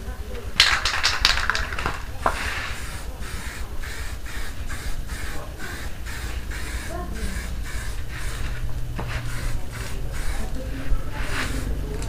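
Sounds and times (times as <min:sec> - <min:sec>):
spray paint can hissing: 0:01.4 - 0:12.0.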